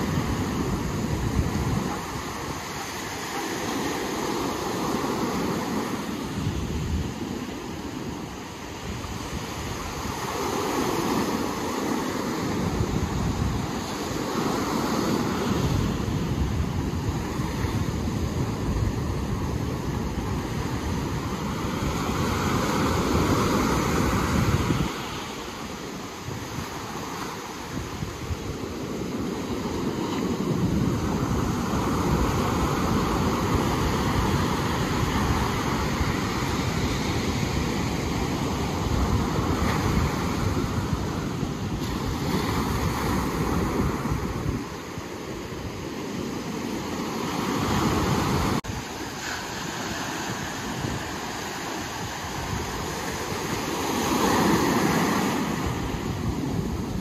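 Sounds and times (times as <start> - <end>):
ocean surf washing: 0.0 - 57.0
wind rumbling on microphone: 0.0 - 57.0.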